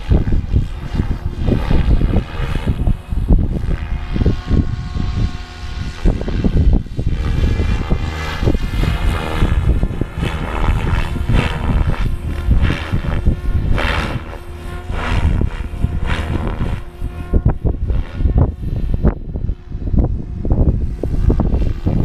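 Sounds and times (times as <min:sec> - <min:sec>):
rc helicopter rotor whine: 0:00.0 - 0:22.0
wind on microphone: 0:00.0 - 0:22.0.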